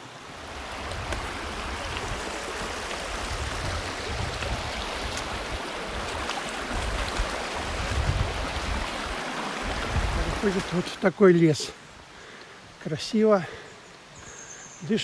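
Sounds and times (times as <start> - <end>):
river rushing over stones: 0.0 - 13.4.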